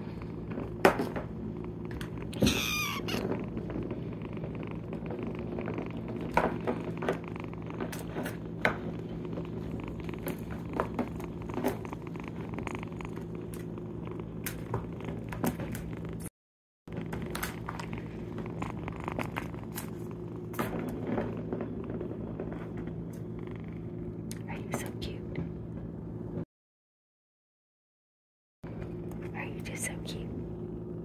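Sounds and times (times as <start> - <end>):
kitten purring: 0.0 - 16.3, 16.9 - 25.8.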